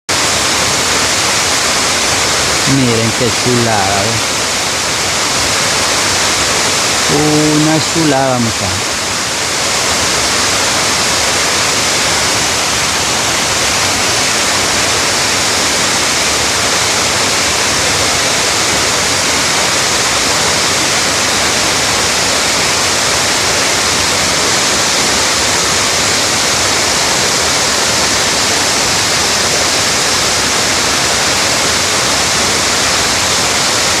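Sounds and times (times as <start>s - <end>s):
waterfall rushing: 0.1s - 34.0s.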